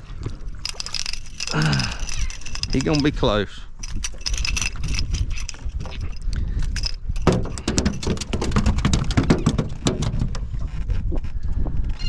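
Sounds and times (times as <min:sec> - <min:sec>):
fishing rig clicking and rattling: 0:00.3 - 0:10.4.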